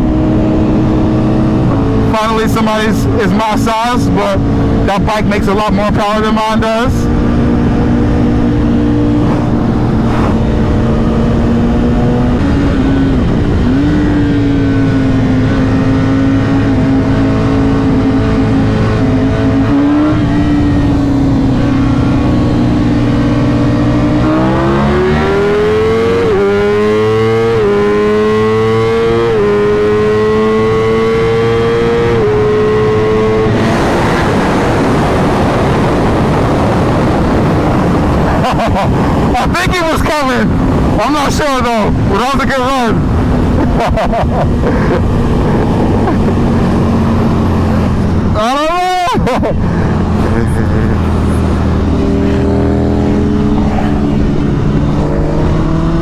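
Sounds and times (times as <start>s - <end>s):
wind rush: 0.0s - 25.5s, 32.0s - 56.0s
motorcycle engine revving through gears: 0.0s - 56.0s.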